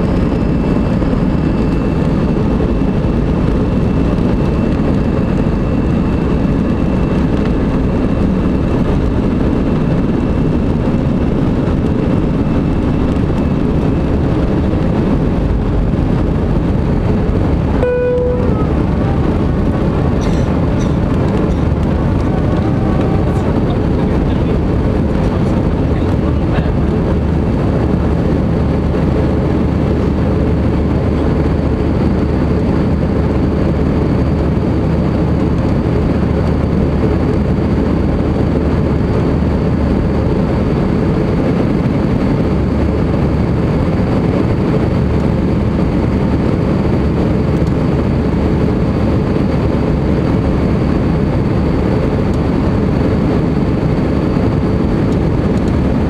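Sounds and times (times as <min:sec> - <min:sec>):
jet engines at climb power: 0:00.0 - 0:56.0
rushing airflow: 0:00.0 - 0:56.0.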